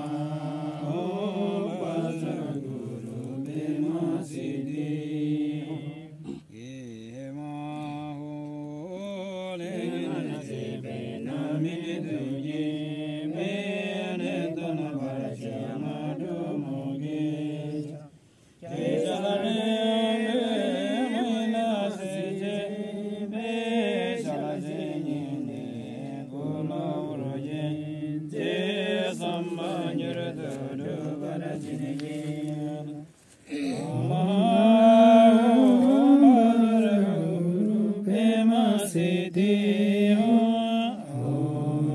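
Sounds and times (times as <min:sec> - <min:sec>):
monks chanting: 0:00.0 - 0:41.9.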